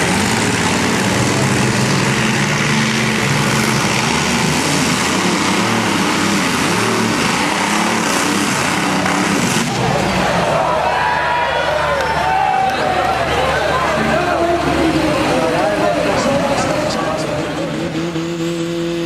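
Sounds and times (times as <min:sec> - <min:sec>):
engine running hard: 0:00.0 - 0:19.0.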